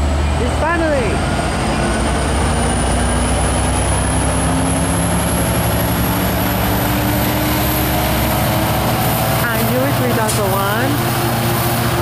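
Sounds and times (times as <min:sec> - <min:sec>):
train diesel drone: 0:00.0 - 0:12.0.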